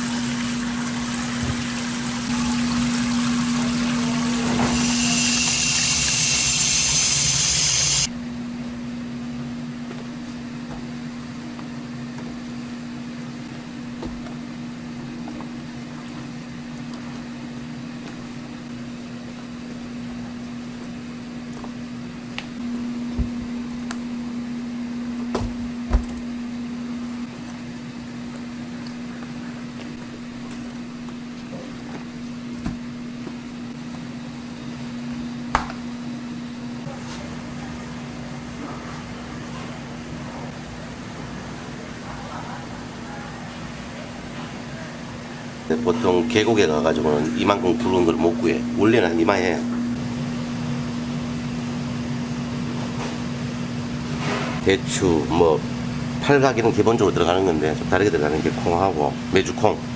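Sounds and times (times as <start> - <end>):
steady mechanical hum: 0.0 - 59.9.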